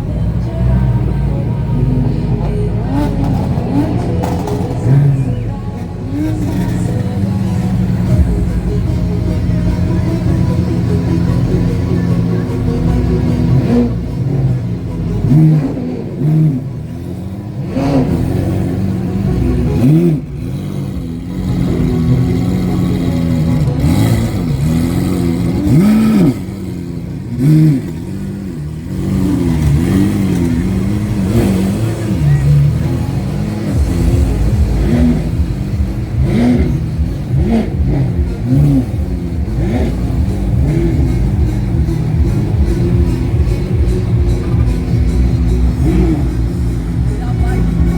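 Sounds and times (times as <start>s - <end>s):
low exhaust rumble: 0.0s - 47.9s
sports car engine revving: 0.0s - 47.9s.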